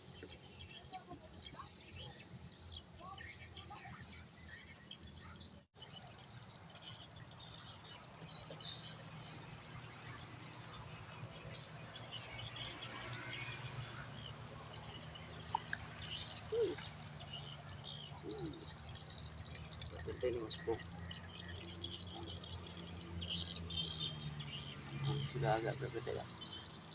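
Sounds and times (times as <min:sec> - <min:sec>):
bird chirps: 0:00.0 - 0:26.9
insects trilling: 0:00.0 - 0:26.9.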